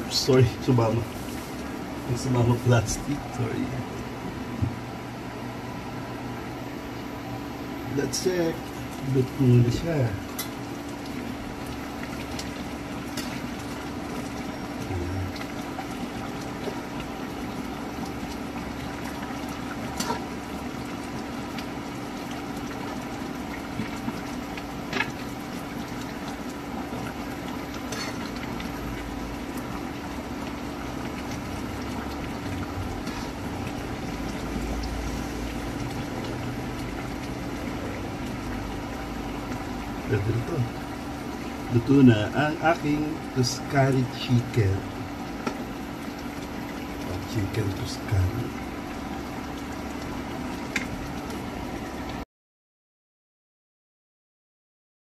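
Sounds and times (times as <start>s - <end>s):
sauce bubbling in a frying pan: 0.0s - 52.2s.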